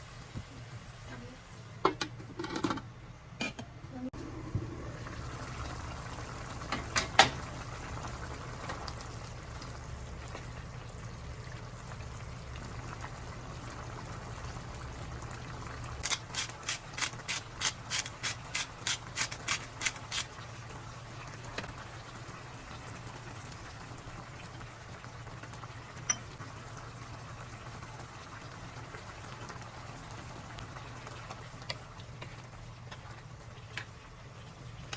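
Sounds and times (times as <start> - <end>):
food simmering in a pan: 4.0 - 34.9.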